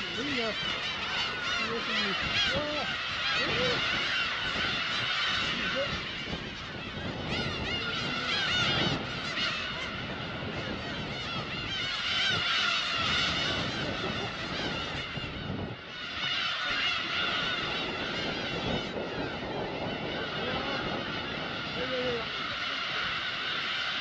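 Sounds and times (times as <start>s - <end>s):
gulls calling: 0.0s - 24.0s.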